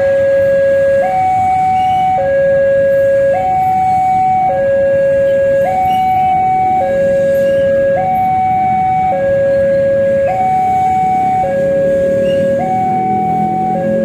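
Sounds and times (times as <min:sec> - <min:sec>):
level-crossing two-tone alarm: 0:00.0 - 0:14.0.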